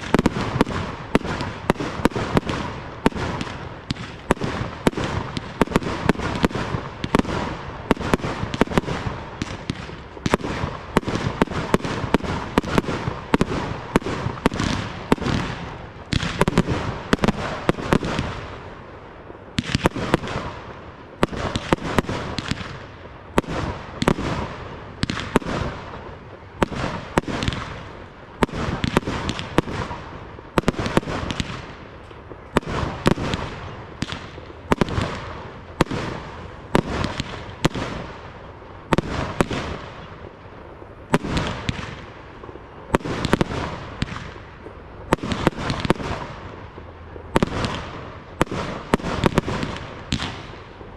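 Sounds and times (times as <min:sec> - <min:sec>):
fireworks bangs: 0:00.0 - 0:50.9.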